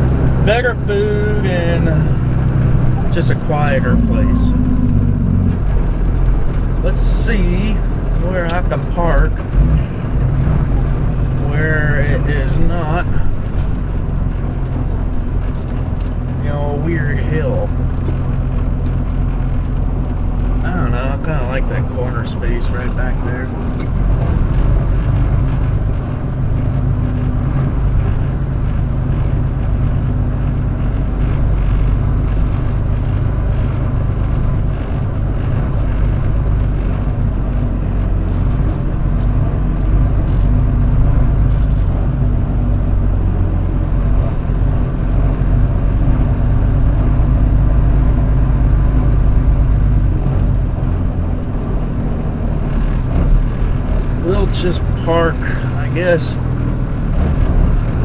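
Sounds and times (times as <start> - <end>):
truck engine running at low speed: 0.0 - 58.0.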